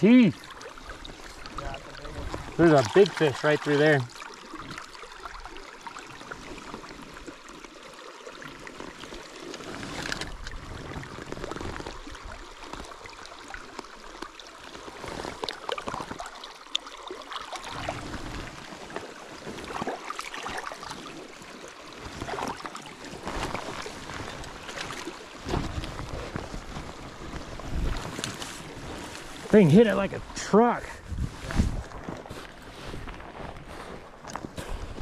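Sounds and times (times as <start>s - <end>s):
river running over rocks: 0.0s - 30.9s
small splashes in water: 0.3s - 29.5s.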